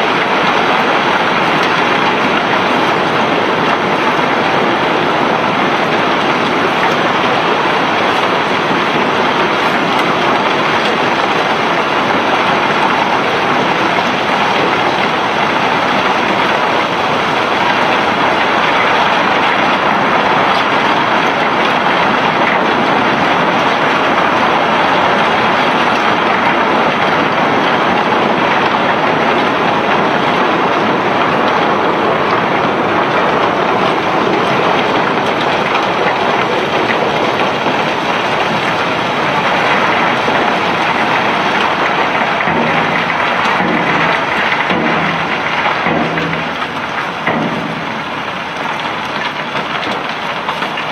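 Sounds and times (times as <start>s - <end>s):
cobblestones pouring and sliding: 0.0s - 50.9s.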